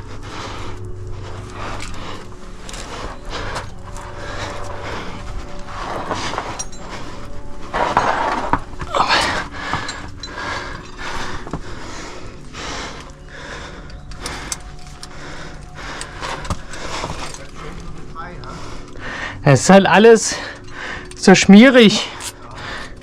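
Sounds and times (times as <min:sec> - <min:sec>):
heavy breathing: 0:00.0 - 0:21.3, 0:21.9 - 0:23.0.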